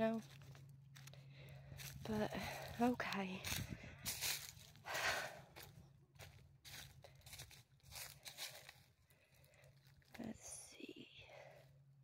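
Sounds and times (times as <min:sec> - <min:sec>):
footsteps crunching through dry leaves: 0:00.1 - 0:10.2.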